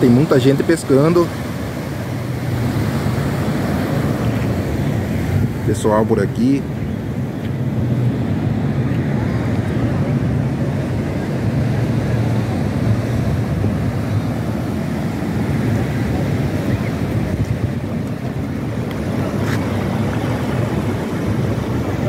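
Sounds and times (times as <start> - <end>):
ocean surf washing around pilings: 0.0 - 22.0
wind buffeting microphone: 1.2 - 22.0.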